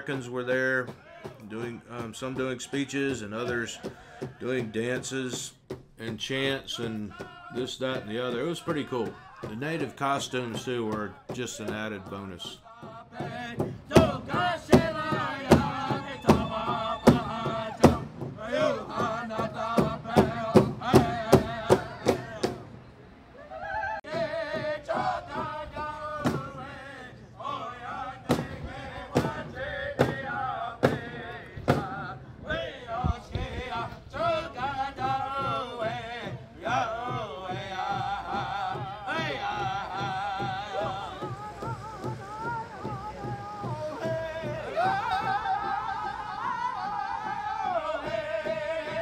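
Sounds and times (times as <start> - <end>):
large drum beating: 0.1 - 22.9, 24.1 - 26.9, 27.8 - 49.0
group singing a chant: 0.9 - 4.8, 6.7 - 22.7, 23.6 - 49.0.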